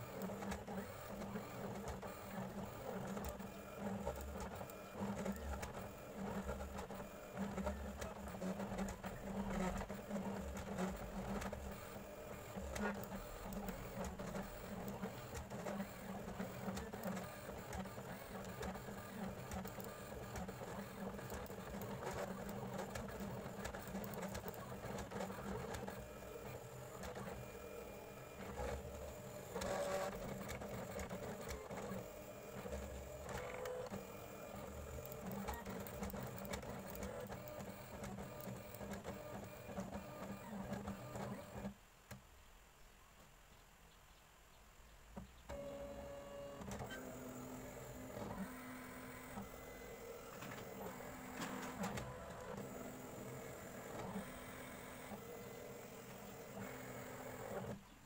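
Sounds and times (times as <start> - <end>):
cutting machine motor whir: 0.0 - 41.7, 45.5 - 57.8.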